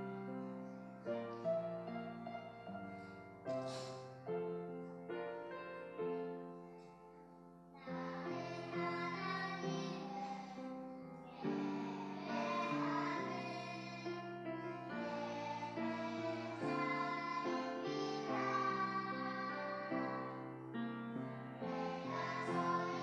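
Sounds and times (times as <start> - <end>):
children singing worship song: 0.0 - 4.3, 7.8 - 23.0
piano playing: 0.0 - 23.0.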